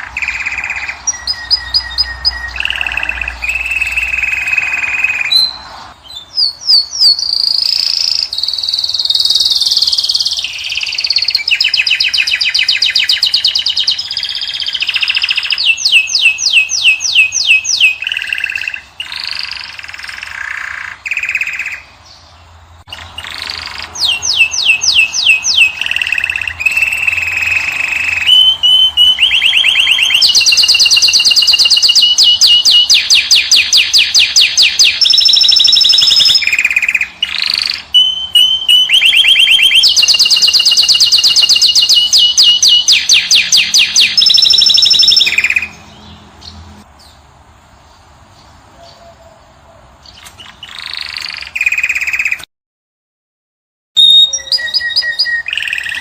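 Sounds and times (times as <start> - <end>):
finch singing: 0.0 - 47.2, 47.8 - 52.4, 54.0 - 56.0.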